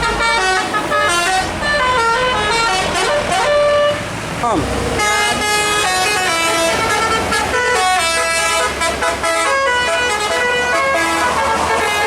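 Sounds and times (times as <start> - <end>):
musical air horn playing a tune: 0.0 - 4.0, 5.0 - 12.0.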